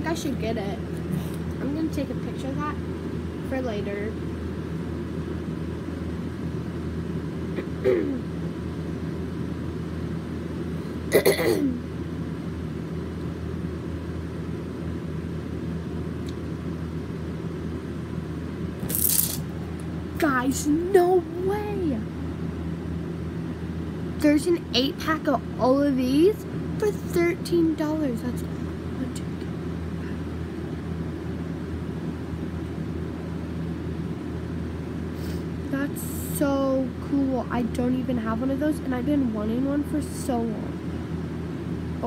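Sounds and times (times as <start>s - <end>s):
low room hum: 0.0s - 42.0s.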